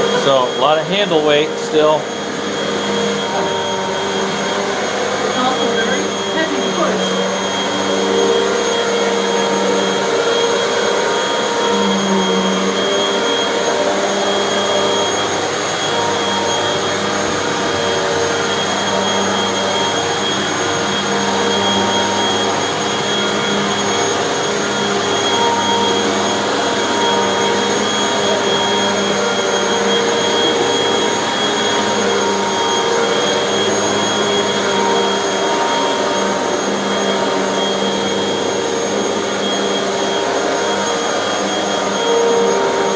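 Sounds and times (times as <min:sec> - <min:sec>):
vacuum cleaner on carpet: 0:00.0 - 0:42.9.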